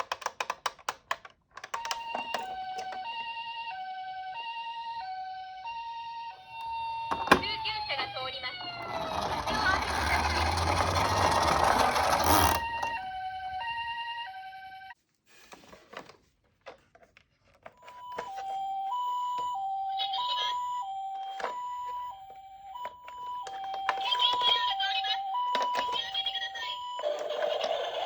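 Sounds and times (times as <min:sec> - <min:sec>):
ambulance two-tone siren: 0:01.8 - 0:15.0, 0:17.8 - 0:28.0.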